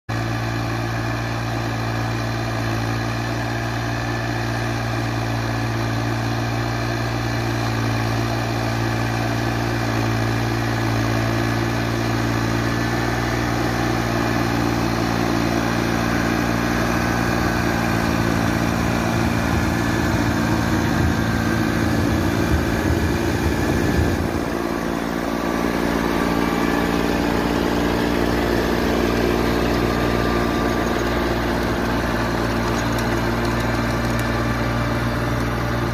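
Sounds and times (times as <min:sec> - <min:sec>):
tractor engine running: 0:00.1 - 0:35.9.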